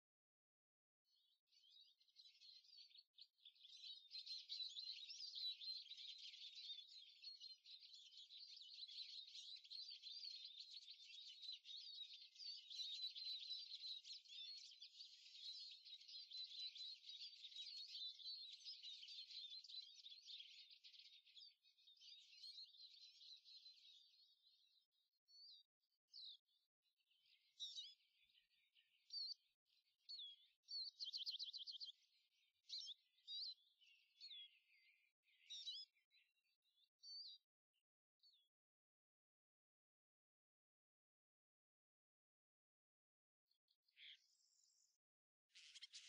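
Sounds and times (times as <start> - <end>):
small birds chirping: 0.9 - 38.8, 43.4 - 46.0.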